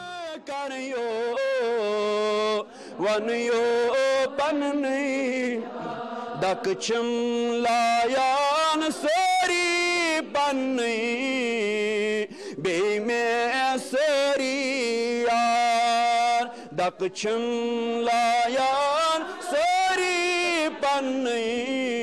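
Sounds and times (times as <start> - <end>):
devotional chanting with held notes: 0.0 - 22.0.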